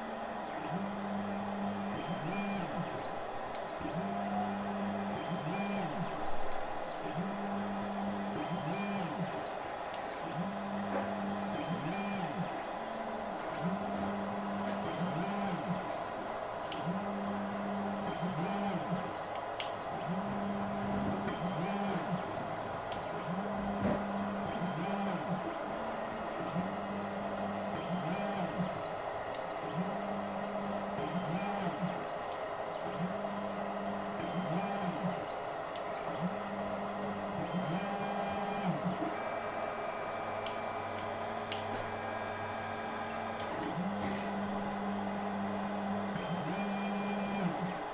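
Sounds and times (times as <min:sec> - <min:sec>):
cooling fans whirring: 0:00.0 - 0:47.9
stepper motors whining: 0:00.0 - 0:47.9.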